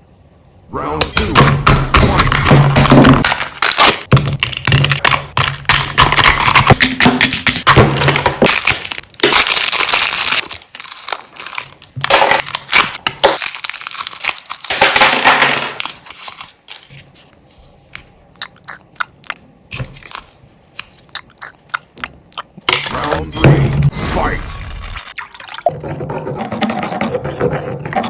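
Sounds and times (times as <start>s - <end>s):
crushing and crunching: 1.0s - 28.0s.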